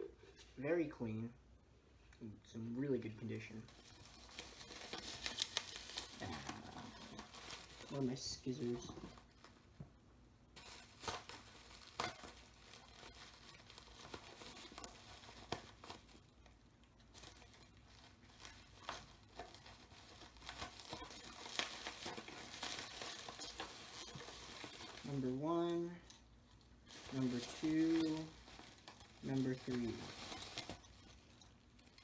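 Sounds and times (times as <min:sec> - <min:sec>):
plastic packaging crinkling: 0:03.4 - 0:09.7, 0:10.6 - 0:32.0.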